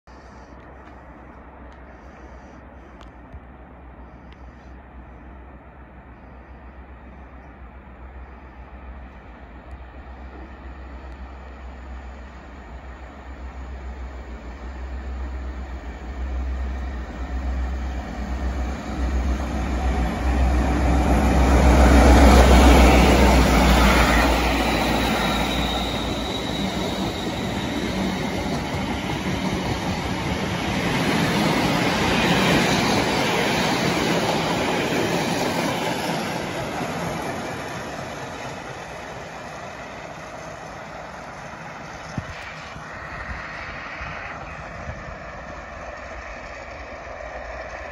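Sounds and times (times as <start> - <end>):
diesel locomotive engine drone: 0.0 - 47.9
train wheels rumbling on rails: 0.1 - 47.9.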